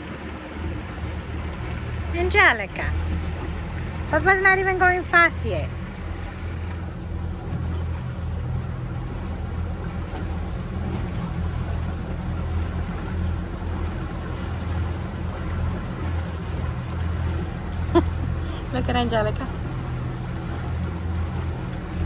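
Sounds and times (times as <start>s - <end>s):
motorboat engine running: 0.0s - 22.0s.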